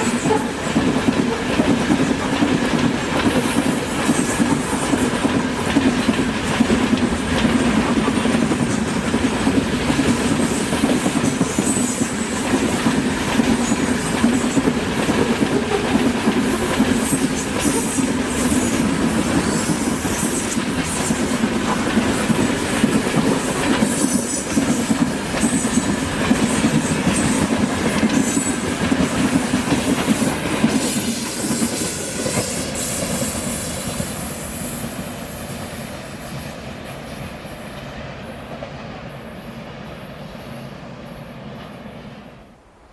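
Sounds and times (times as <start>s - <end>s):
train wheels clattering over rails: 0.0s - 41.9s.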